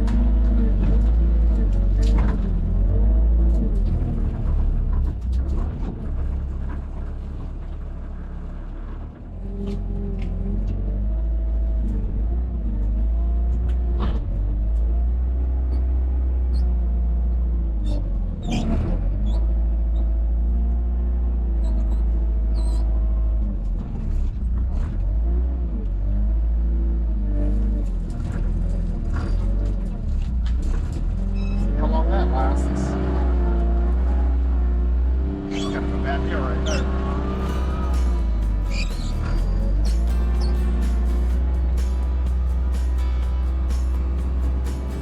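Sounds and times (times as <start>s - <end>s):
tractor engine running: 0.0s - 26.0s, 27.6s - 45.0s.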